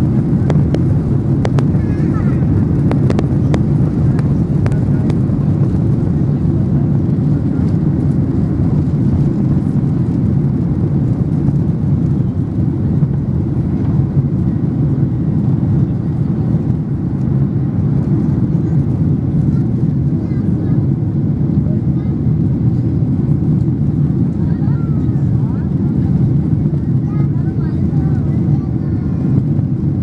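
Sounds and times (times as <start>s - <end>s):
jet engines low rumble: 0.0s - 30.0s.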